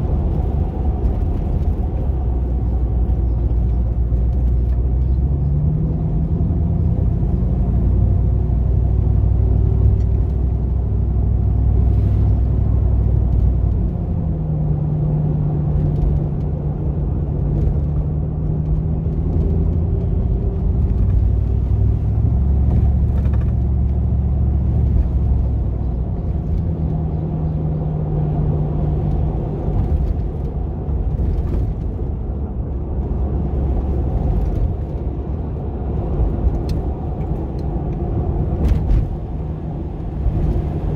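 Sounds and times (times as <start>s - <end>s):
van engine rumbling: 0.0s - 40.9s.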